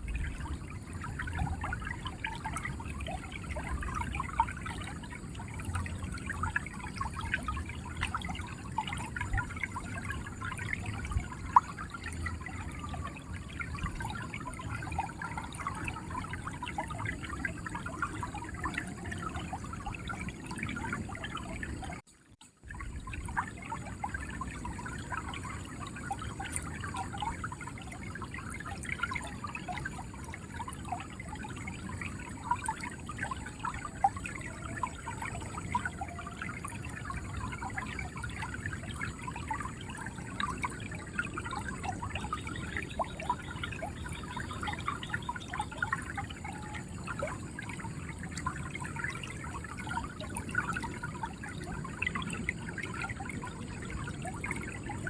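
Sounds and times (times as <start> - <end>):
river water gurgling: 0.0 - 55.0.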